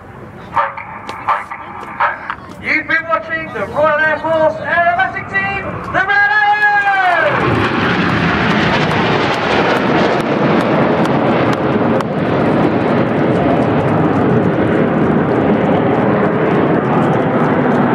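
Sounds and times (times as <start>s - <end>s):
jet roar: 0.0s - 17.9s.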